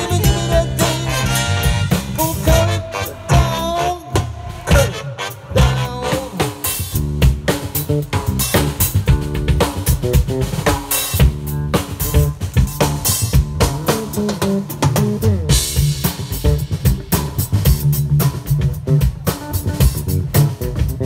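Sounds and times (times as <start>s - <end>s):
drum kit beat: 0.0s - 21.0s
live funk band playing: 0.0s - 21.0s.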